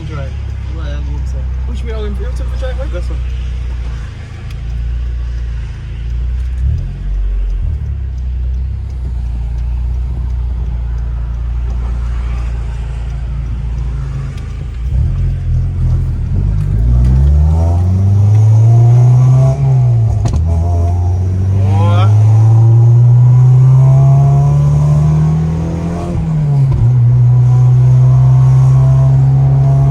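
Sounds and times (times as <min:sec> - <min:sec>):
car engine droning and accelerating: 0:00.0 - 0:29.9.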